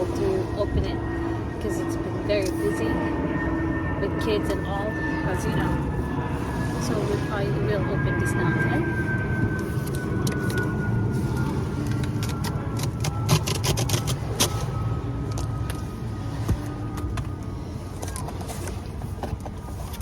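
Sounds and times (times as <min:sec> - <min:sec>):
faint falling whine: 0:00.0 - 0:19.2
steady low rumble: 0:00.0 - 0:20.0.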